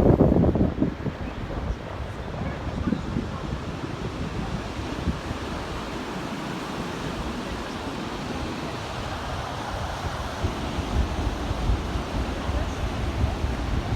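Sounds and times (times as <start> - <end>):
ocean surf washing ashore: 0.0 - 13.9
wind buffeting microphone: 0.0 - 13.9.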